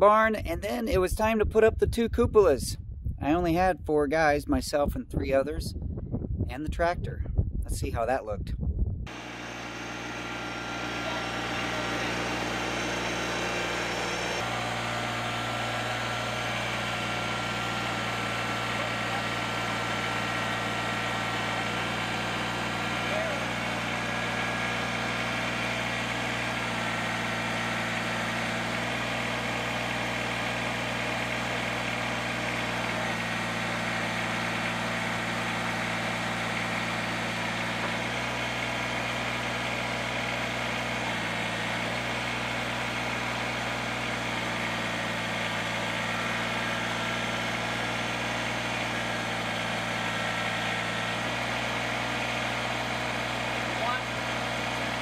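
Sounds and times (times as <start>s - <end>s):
tractor engine running steadily: 9.0s - 55.0s.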